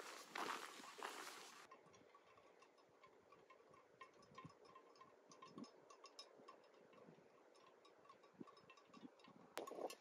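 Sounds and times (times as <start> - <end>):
faint small ticks and clinks: 0.6 - 10.0.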